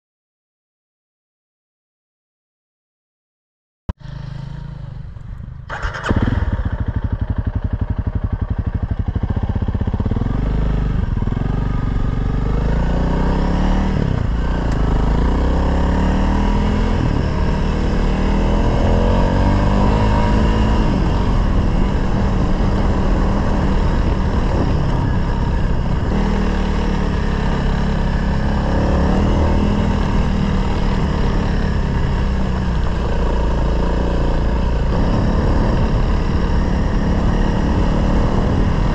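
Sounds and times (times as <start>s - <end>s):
motorcycle engine running: 4.0s - 38.9s.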